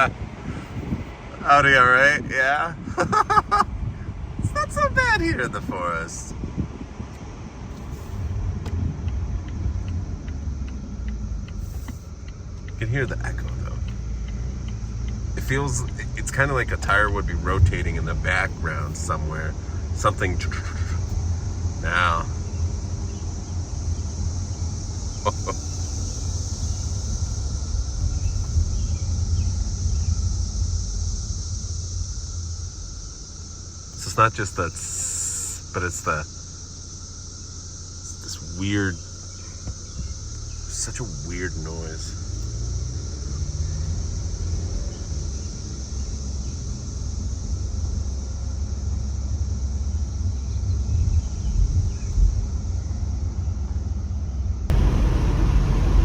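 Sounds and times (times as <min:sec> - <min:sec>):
cicada chorus drone: 0:00.0 - 0:56.0
road rumble: 0:00.0 - 0:56.0.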